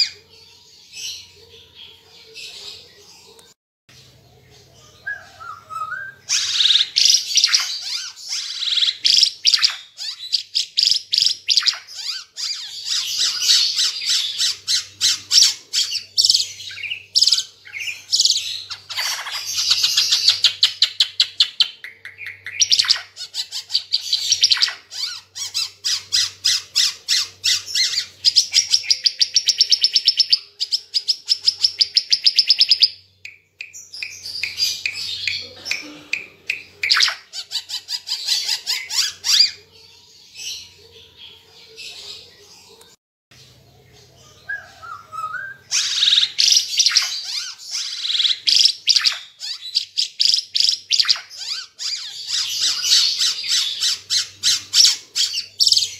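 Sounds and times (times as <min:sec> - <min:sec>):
songbird chirping and trilling: 0:00.0 - 0:55.9.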